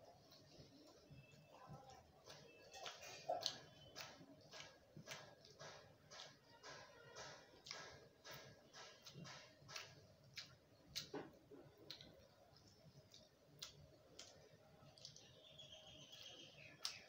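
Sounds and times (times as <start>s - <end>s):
chewing: 0.0s - 17.0s
fingers mixing rice on metal plate: 0.0s - 17.0s.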